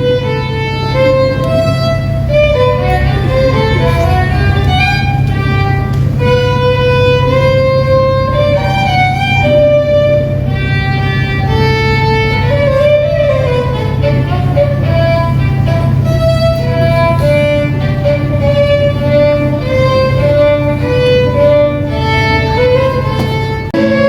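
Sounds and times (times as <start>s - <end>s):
low accompaniment: 0.0s - 24.0s
violin melody: 0.0s - 24.0s.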